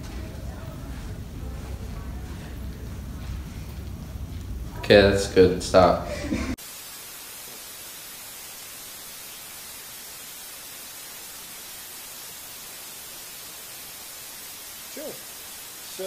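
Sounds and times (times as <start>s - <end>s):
static hiss: 0.0s - 16.0s.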